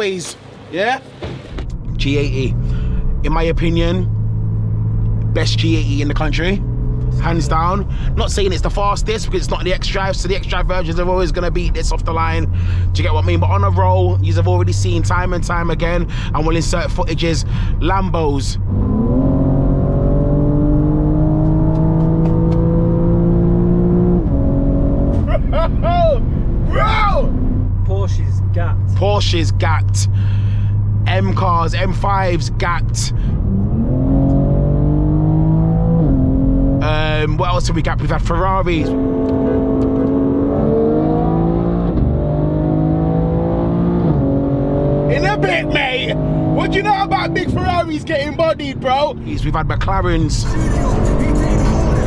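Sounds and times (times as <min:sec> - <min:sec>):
road and wind noise: 0:00.0 - 0:52.0
car engine accelerating: 0:00.3 - 0:52.0.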